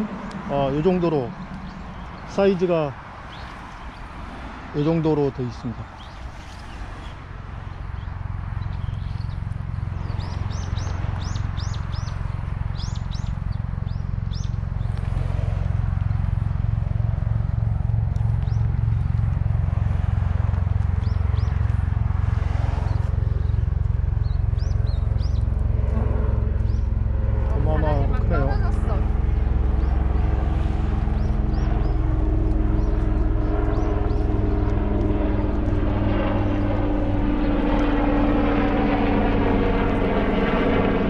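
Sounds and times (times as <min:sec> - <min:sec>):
small birds chirping: 0:00.0 - 0:39.5
low machine hum: 0:00.0 - 0:41.0.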